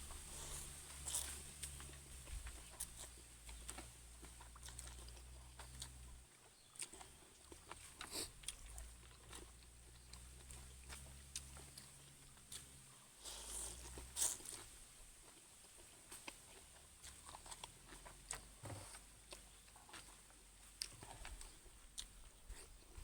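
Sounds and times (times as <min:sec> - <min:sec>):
person chewing and crunching: 0:00.0 - 0:23.0.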